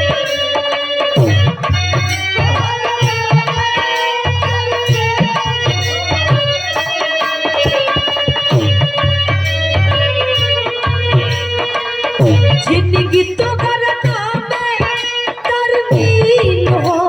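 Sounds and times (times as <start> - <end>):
hand drum rhythm: 0.0 - 17.0.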